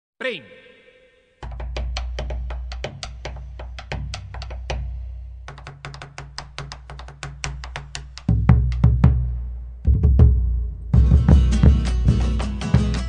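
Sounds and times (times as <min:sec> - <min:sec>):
music with clicking percussion beat: 0:01.4 - 0:13.0.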